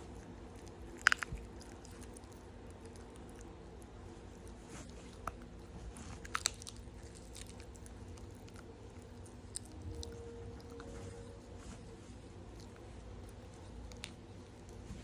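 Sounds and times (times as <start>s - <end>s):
pet crunching a snack: 0.0s - 15.0s
steady low hum: 0.0s - 15.0s.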